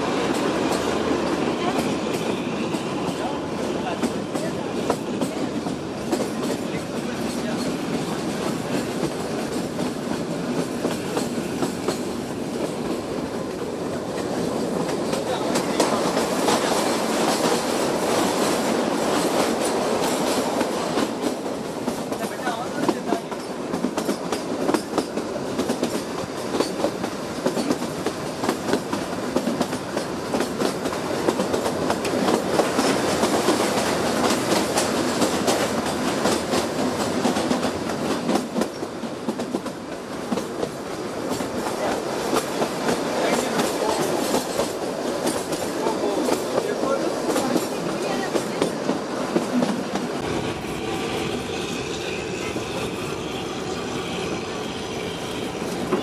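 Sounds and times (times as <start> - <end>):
train wheels clattering: 0.0 - 52.7
outdoor background noise: 0.0 - 56.0.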